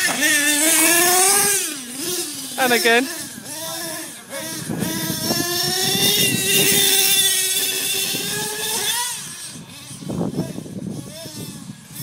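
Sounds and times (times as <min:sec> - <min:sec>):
small engine high revs drone: 0:00.0 - 0:12.0.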